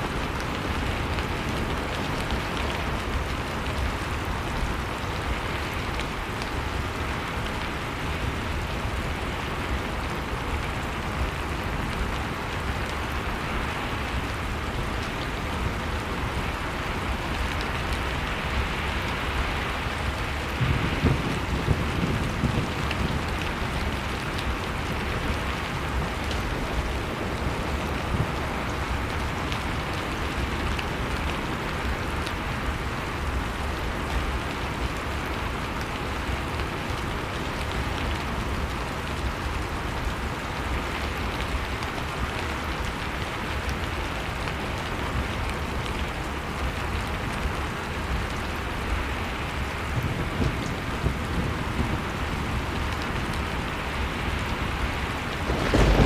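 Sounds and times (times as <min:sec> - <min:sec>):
blizzard wind roaring: 0:00.0 - 0:56.0
wood fire crackling: 0:00.0 - 0:56.0.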